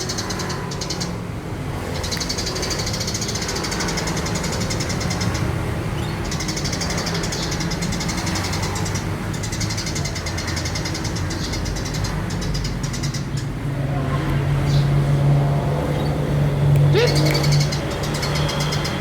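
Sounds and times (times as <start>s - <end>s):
low engine-like hum: 0.0s - 19.0s
sparrows chirping: 0.0s - 19.0s.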